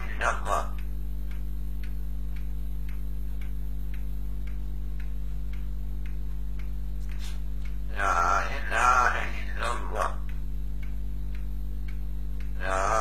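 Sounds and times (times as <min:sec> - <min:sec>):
clock ticking: 0:00.0 - 0:13.0
low electrical hum: 0:00.0 - 0:13.0.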